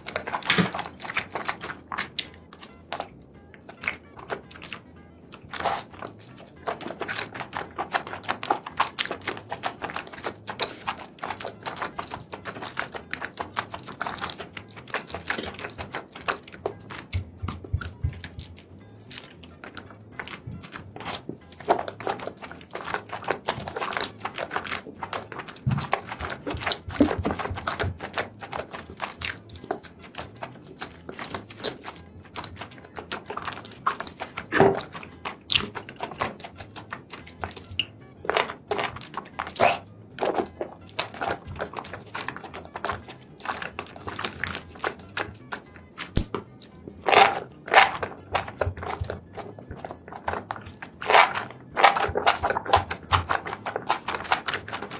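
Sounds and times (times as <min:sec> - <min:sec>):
wet chewing and smacking: 0:00.0 - 0:54.9.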